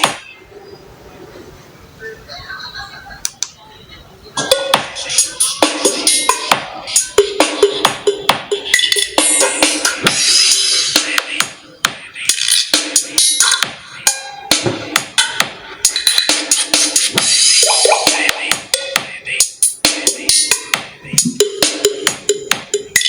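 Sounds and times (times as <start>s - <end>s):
music with drum-kit beat on phone speaker: 0.0s - 0.4s, 4.4s - 23.0s.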